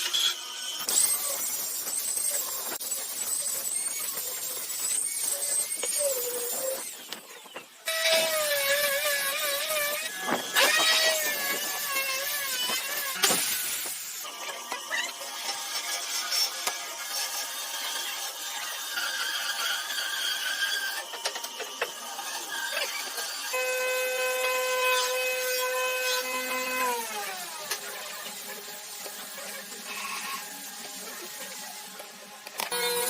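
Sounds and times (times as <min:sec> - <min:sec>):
woodworking tool: 0:00.0 - 0:33.0.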